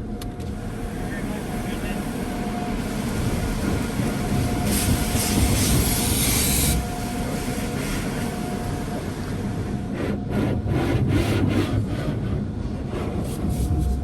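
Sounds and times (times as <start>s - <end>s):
car wash machinery rumble: 0.0s - 14.0s.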